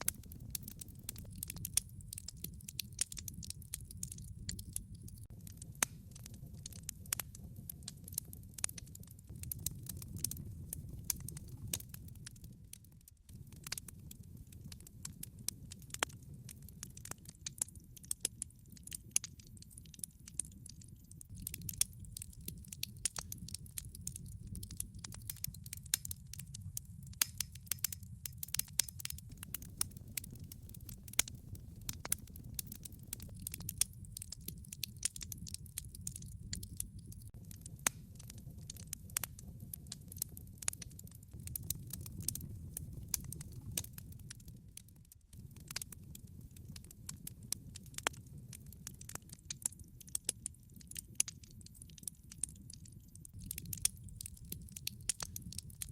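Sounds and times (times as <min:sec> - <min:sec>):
fire crackling and popping: 0:00.0 - 0:55.9
low roar of flames: 0:00.0 - 0:55.9.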